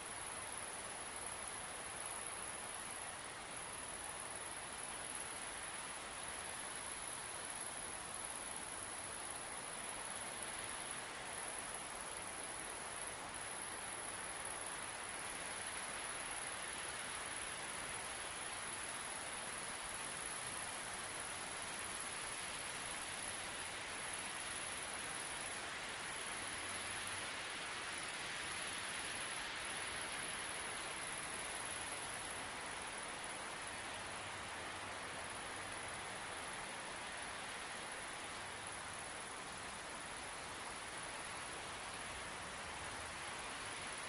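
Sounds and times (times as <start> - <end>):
insect chorus: 0.0 - 44.0
steady wind hiss: 0.0 - 44.0.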